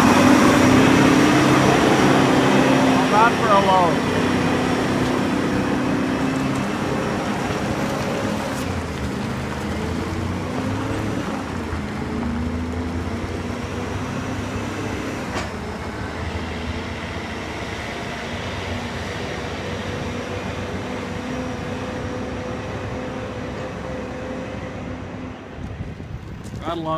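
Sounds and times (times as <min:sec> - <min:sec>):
diesel truck engine under load: 0:00.0 - 0:26.9.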